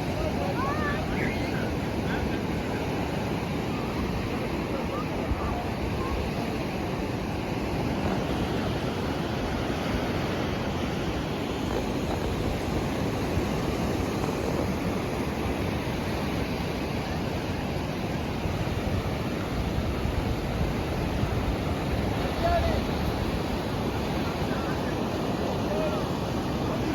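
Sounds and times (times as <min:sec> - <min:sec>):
surf washing: 0:00.0 - 0:26.9.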